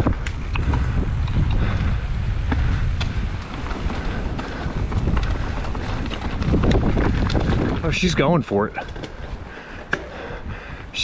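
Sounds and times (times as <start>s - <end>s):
bike clicks and rattles: 0.0s - 10.9s
tyres rolling on dirt: 0.0s - 11.0s
wind buffeting microphone: 0.0s - 11.0s.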